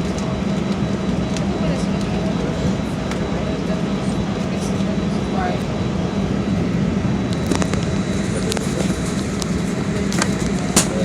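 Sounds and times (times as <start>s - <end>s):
airliner cabin drone: 0.0s - 11.0s.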